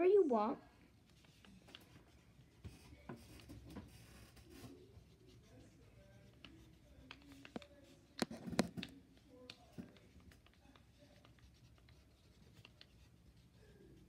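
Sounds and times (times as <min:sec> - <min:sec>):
pen scratching on paper: 0:01.1 - 0:08.9, 0:09.5 - 0:14.0.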